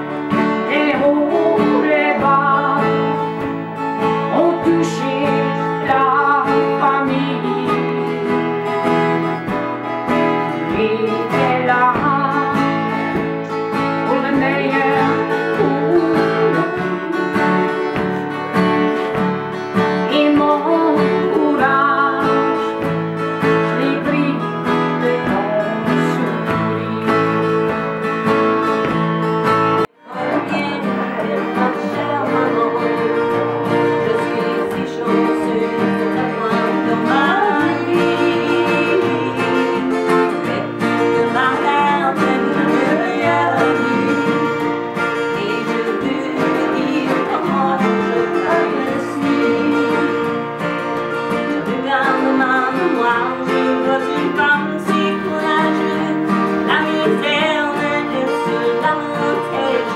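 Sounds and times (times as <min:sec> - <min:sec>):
woman singing: 0:00.0 - 0:28.5, 0:30.0 - 0:59.9
acoustic guitars strumming: 0:00.0 - 0:59.9.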